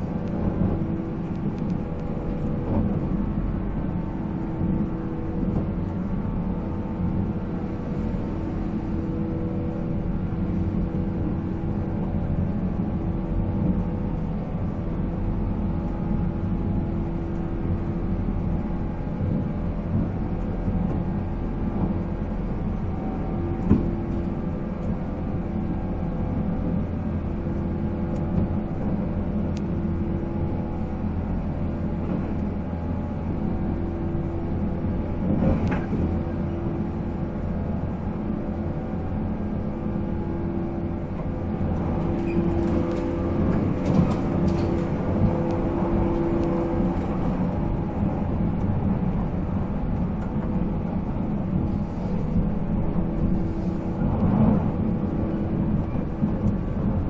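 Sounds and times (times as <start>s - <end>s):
wheels rumbling on rails: 0.0s - 57.0s.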